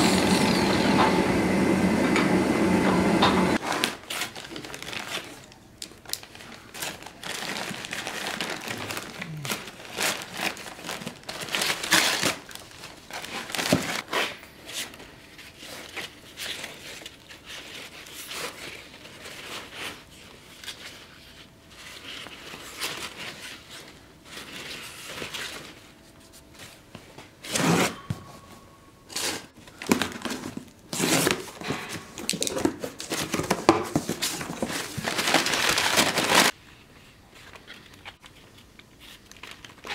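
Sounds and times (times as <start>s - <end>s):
paper crinkling and tearing: 3.6s - 26.9s, 29.1s - 36.6s, 37.4s - 39.9s.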